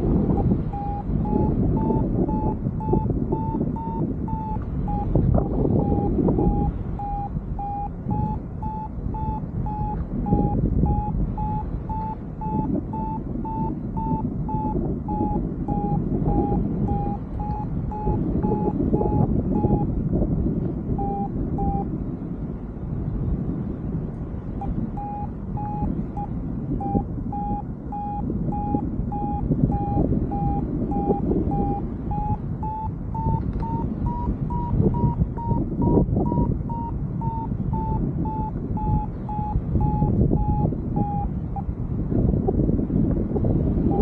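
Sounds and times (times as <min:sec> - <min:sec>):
variometer short beeps: 0:00.0 - 0:20.0, 0:20.9 - 0:21.9, 0:24.5 - 0:41.7, 0:43.6 - 0:44.0
wind rushing over microphone: 0:00.0 - 0:44.0.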